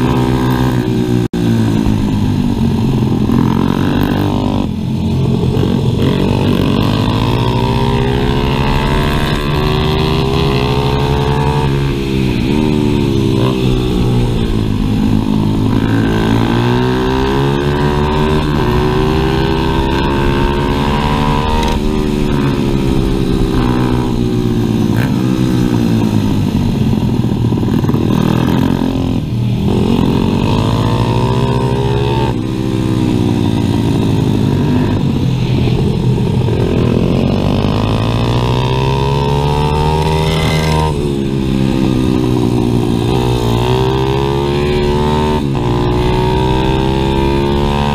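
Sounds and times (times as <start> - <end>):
motorbike engine revving: 0.0 - 47.9.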